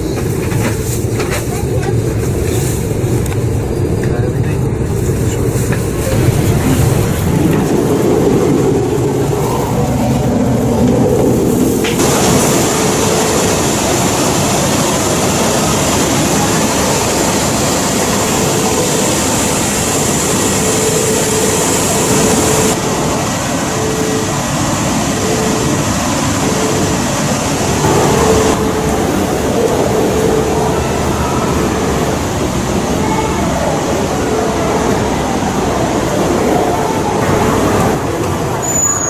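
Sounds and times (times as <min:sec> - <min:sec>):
train rushing at speed: 0:00.0 - 0:39.0.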